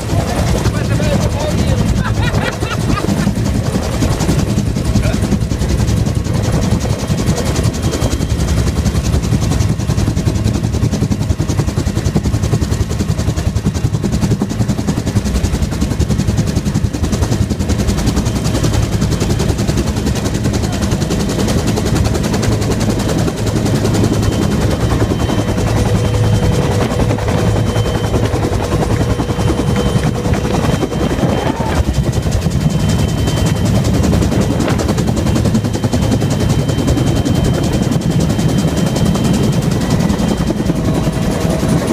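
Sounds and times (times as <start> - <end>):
helicopter rotor chopping: 0.0 - 41.9.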